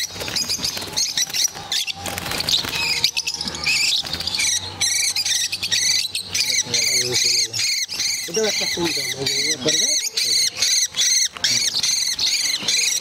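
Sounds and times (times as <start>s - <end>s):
lovebirds chirping shrilly: 0.0s - 13.0s.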